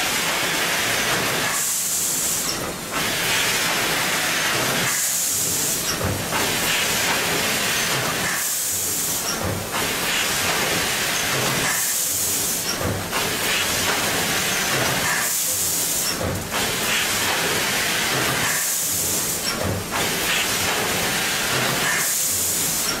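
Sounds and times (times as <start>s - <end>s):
packing machine clatter: 0.0s - 23.0s
sharp hiss of air: 0.0s - 23.0s.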